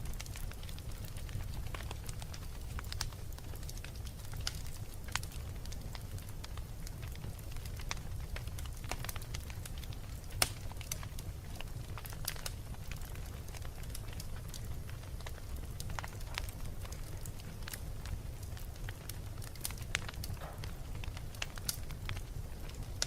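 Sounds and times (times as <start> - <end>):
flames rumbling: 0.0 - 23.0
wood fire crackling: 0.0 - 23.0.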